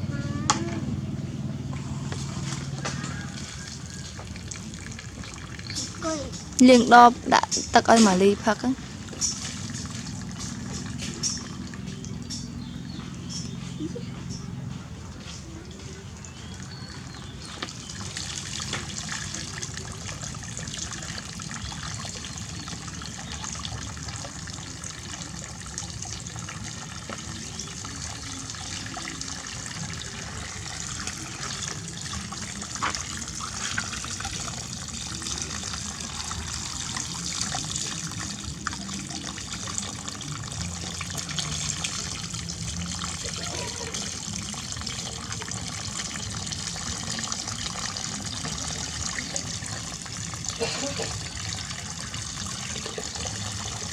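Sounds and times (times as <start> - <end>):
water running from a tap: 1.7 - 13.8, 15.6 - 53.9.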